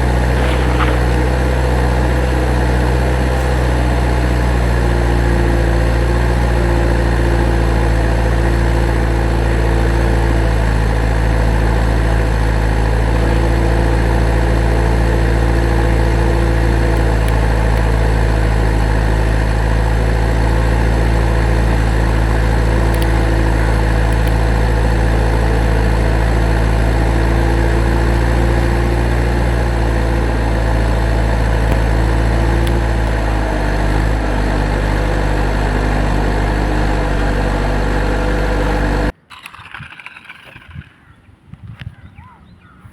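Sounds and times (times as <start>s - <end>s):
engine idling: 0.0s - 39.1s.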